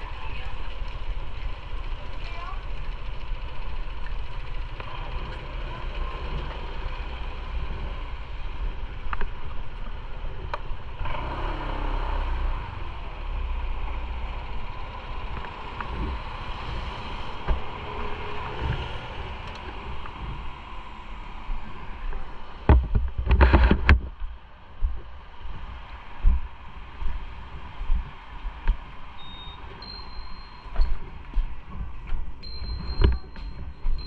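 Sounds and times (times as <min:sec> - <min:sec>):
motorcycle engine rumbling: 0:00.0 - 0:27.6, 0:28.5 - 0:34.0.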